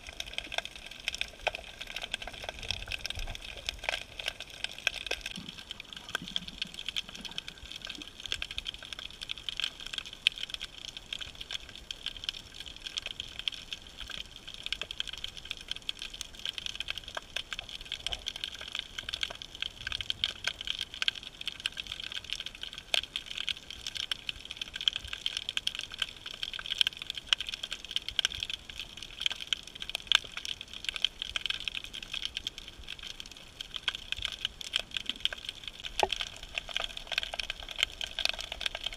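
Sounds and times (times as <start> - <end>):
snapping shrimp crackling underwater: 0.0 - 38.9.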